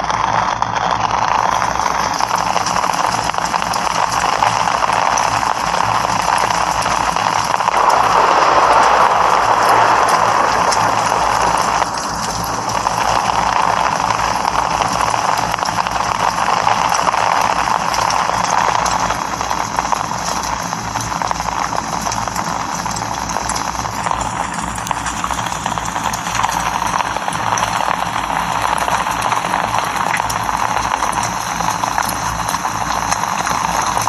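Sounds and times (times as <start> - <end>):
rain on a hard surface: 0.0 - 34.0.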